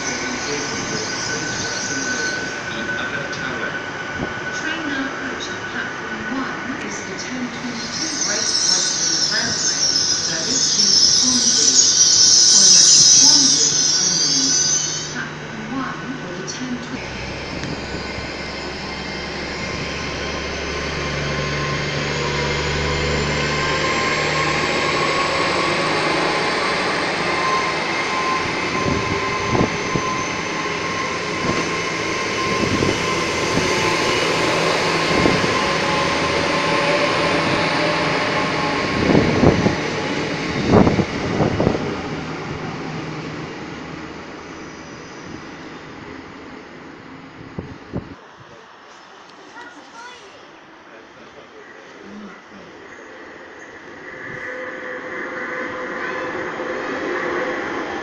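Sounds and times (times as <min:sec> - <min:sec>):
train diesel engines rumbling: 0:00.0 - 0:58.0.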